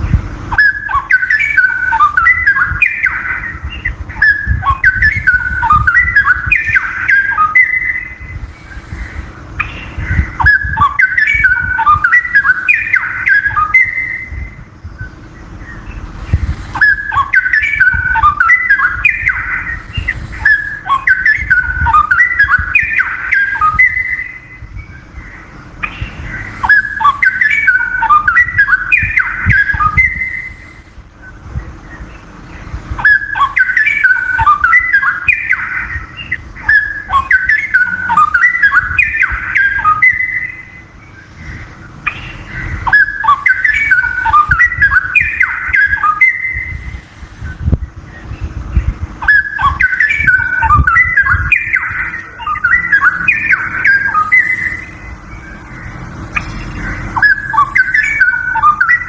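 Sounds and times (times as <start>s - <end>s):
bird singing warbled phrases: 0.0s - 59.0s.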